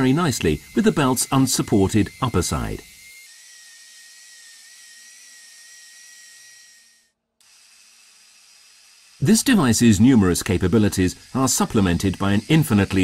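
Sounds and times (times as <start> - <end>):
belt sander whining: 0.0 - 13.0.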